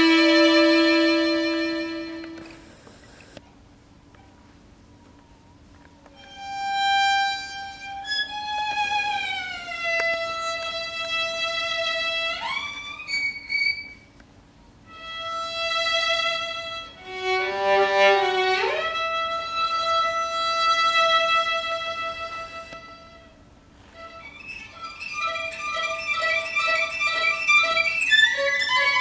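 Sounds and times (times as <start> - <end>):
solo violin playing: 0.0 - 2.6, 6.2 - 14.1, 14.9 - 29.0.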